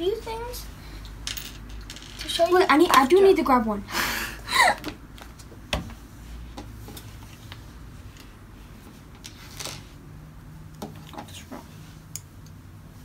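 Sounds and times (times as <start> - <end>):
faint low room hum: 0.0 - 13.0.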